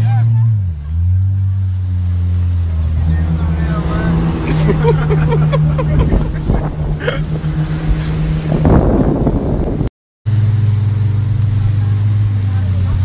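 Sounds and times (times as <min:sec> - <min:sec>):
low engine drone: 0:00.0 - 0:13.0
motorboat engine running: 0:00.0 - 0:13.0
water rushing: 0:00.0 - 0:13.0.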